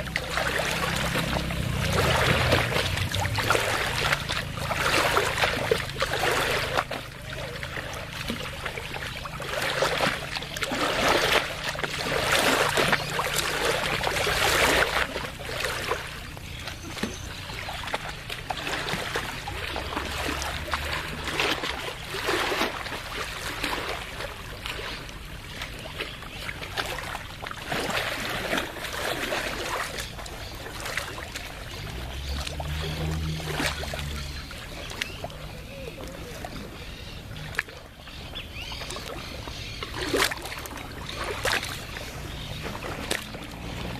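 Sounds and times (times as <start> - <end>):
lake water lapping: 0.0 - 43.9
low steady hum: 0.0 - 43.9.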